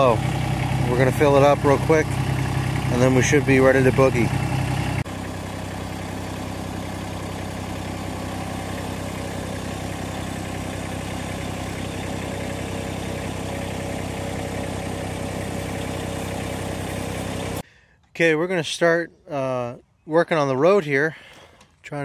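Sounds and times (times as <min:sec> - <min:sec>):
tractor engine idling: 0:00.0 - 0:17.6.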